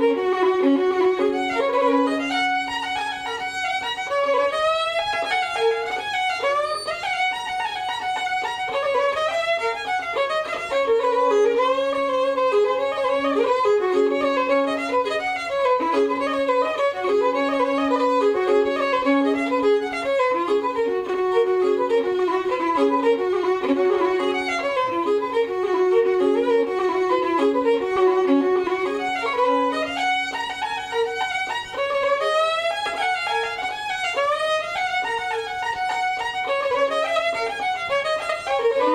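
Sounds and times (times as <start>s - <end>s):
fiddle playing lively folk tune: 0.0s - 38.9s.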